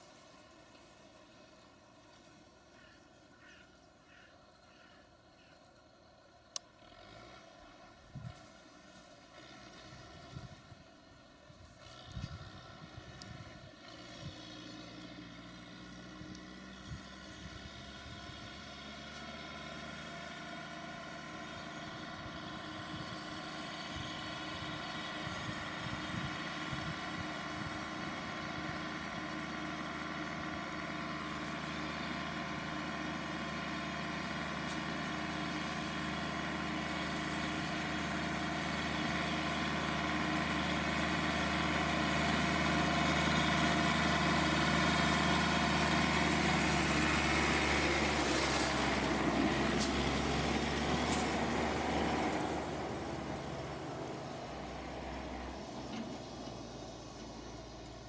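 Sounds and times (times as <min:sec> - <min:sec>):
diesel engine running: 0:00.0 - 0:04.2, 0:06.0 - 0:58.0.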